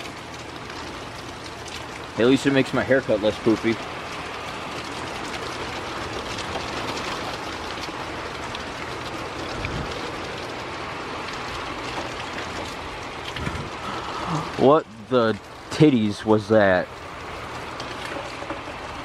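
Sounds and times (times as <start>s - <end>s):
heavy rain: 0.0s - 19.0s
wind: 0.0s - 19.0s.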